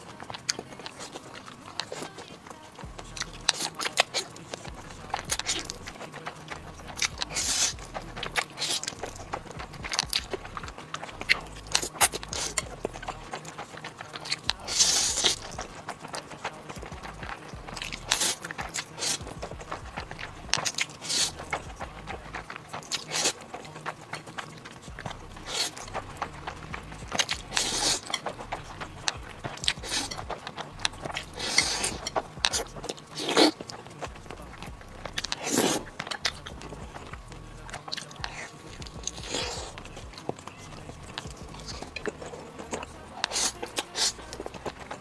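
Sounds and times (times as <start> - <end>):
noodles slurped and chewed: 0.0 - 45.0.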